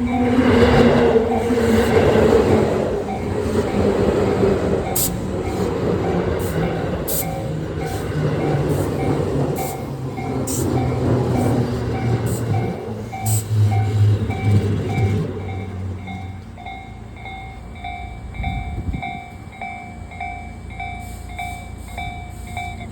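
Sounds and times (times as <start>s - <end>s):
electric train running: 0.0s - 22.9s
level crossing warning bell: 0.0s - 22.9s
wheels clacking on rails: 0.0s - 22.9s.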